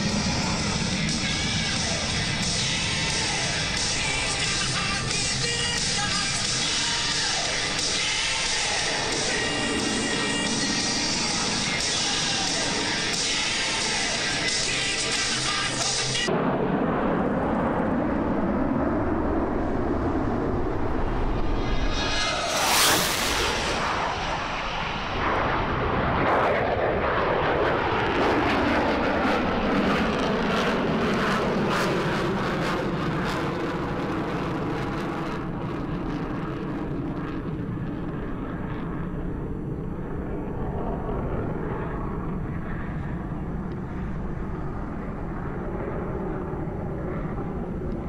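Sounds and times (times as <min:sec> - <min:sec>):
jet engine crackle: 0:00.0 - 0:48.0
jet engines passing overhead: 0:00.0 - 0:48.0.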